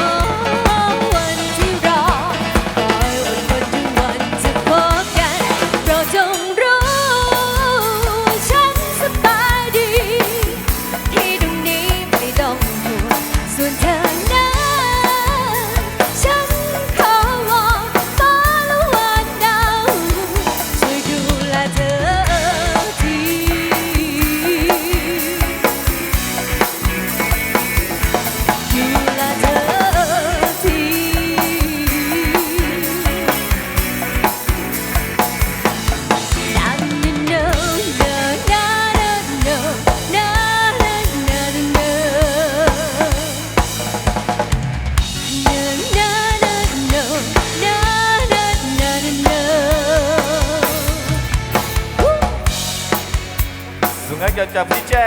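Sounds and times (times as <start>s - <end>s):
drum kit beat: 0.0s - 55.0s
live band music: 0.0s - 55.0s
wavering melodic lead line: 0.0s - 55.0s.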